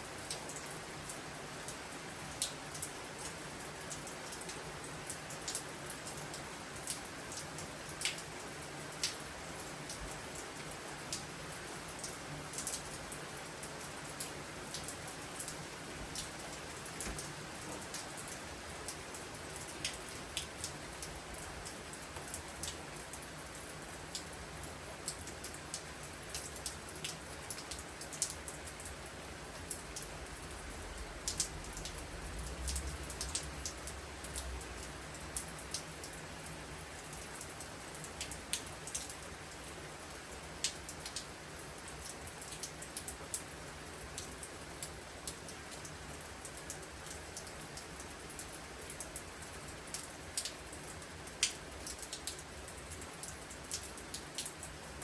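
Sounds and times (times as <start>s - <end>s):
steady rain pouring: 0.0s - 55.0s
raindrops ticking on hard surface: 0.1s - 55.0s.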